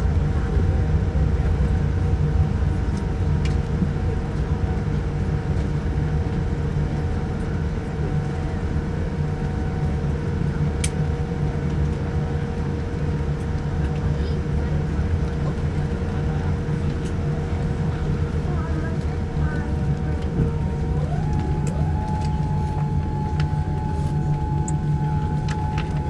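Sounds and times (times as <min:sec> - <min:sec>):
low rumble of aircraft taxiing: 0:00.0 - 0:26.0
steady cabin hum: 0:00.0 - 0:26.0.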